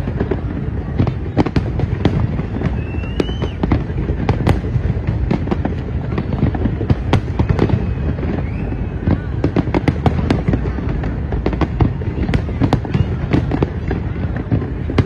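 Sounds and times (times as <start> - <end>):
continuous rumble: 0.0 - 15.0
fireworks bangs and crackles: 0.0 - 15.0.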